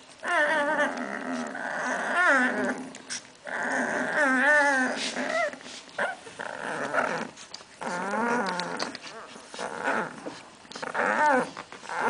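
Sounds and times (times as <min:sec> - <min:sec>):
puppy squealing: 0:00.2 - 0:10.2
puppies whimpering: 0:00.2 - 0:12.0.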